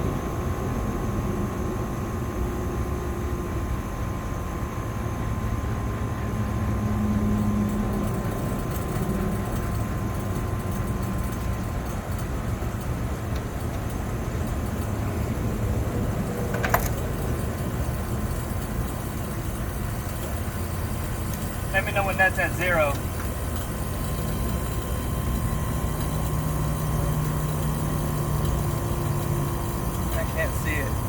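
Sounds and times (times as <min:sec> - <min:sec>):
air conditioner unit humming: 0:00.0 - 0:31.0.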